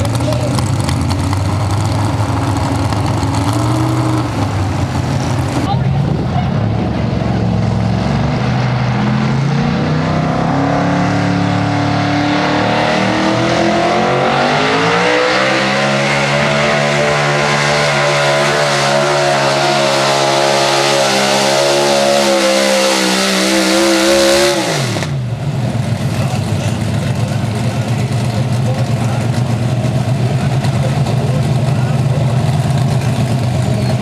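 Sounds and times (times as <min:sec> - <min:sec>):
truck engine revving at full throttle: 0:00.0 - 0:34.0.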